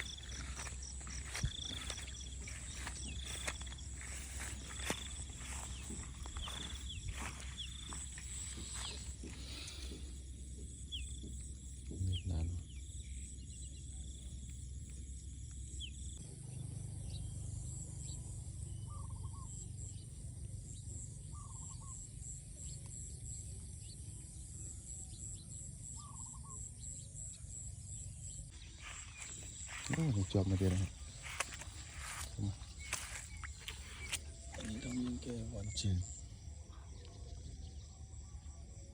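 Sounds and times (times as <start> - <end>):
pulsing insect trill: 0.0 - 38.9.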